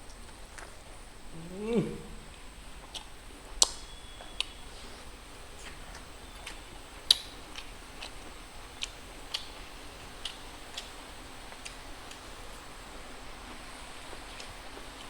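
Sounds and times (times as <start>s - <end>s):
faint hiss: 0.0s - 15.0s
eating clicks and smacks: 1.4s - 15.0s.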